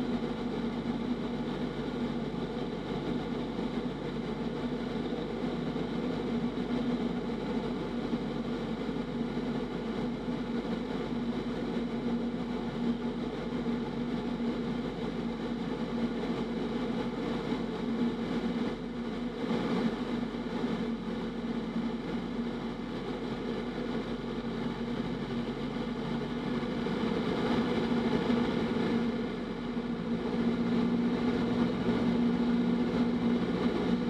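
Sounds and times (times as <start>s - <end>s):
airplane engine drone: 0.0s - 34.0s.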